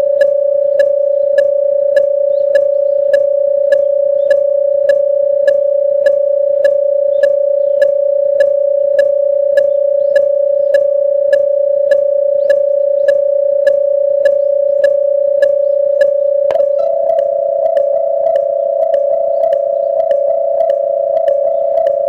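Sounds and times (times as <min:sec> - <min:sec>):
level crossing alarm tone with clicks: 0:00.0 - 0:22.0.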